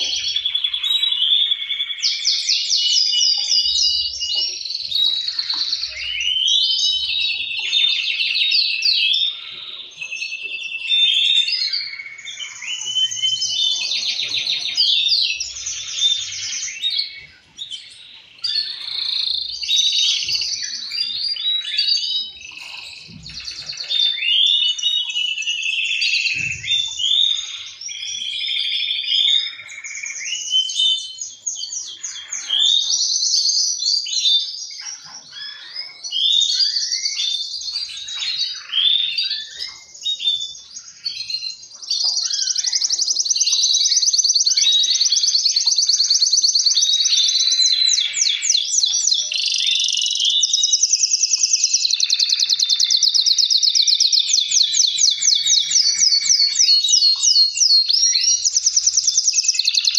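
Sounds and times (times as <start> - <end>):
canaries singing trills: 0.0 - 59.9.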